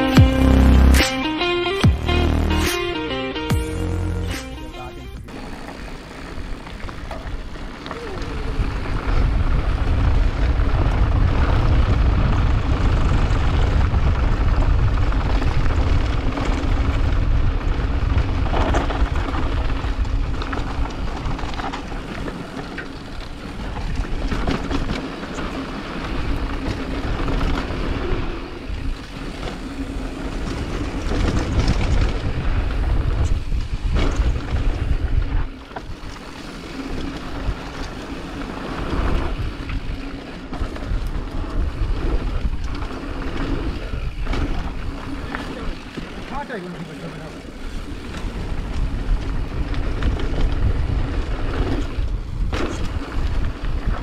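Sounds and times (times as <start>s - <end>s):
wind buffeting microphone: 5.9s - 46.6s, 47.2s - 54.0s.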